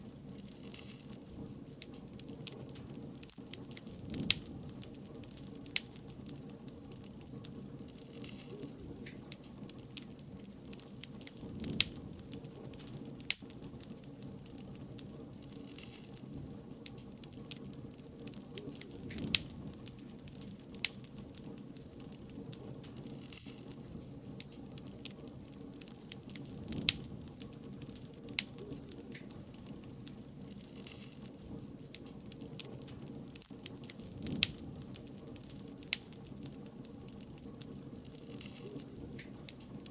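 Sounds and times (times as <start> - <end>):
bonfire crackling and popping: 0.0 - 39.9
flames rushing: 0.0 - 39.9.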